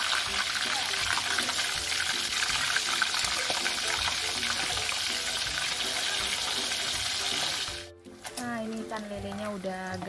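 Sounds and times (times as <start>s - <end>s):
fish deep-frying in oil: 0.0s - 10.0s.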